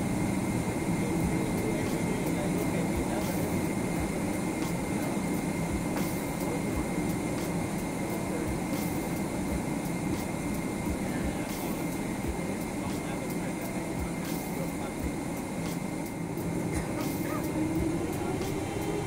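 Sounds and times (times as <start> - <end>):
low rush of engines: 0.0 - 19.0.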